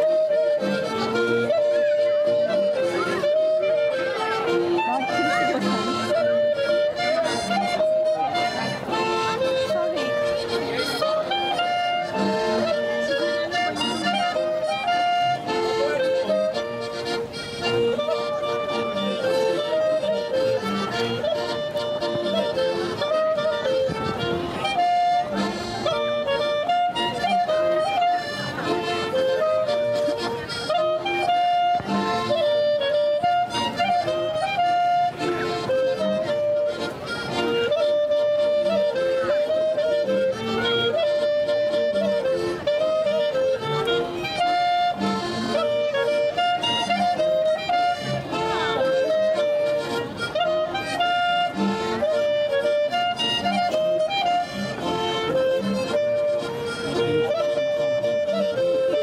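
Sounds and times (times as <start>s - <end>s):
accordion melody: 0.0s - 59.0s
fiddle: 0.0s - 59.0s
folk dance band music: 0.0s - 59.0s.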